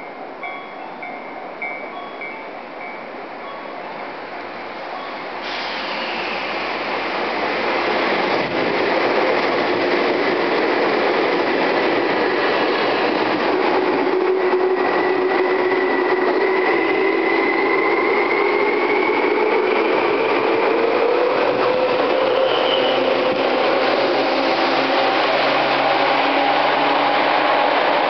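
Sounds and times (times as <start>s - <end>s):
rising train whine: 0.0s - 28.0s
train wheels rumbling on rail: 5.2s - 28.0s.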